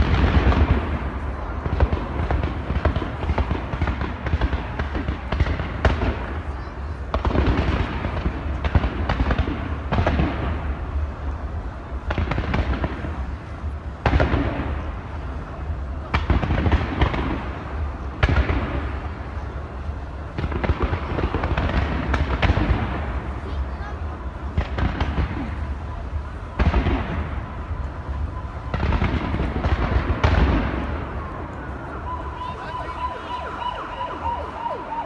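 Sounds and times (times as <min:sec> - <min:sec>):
fireworks banging: 0:00.0 - 0:35.0.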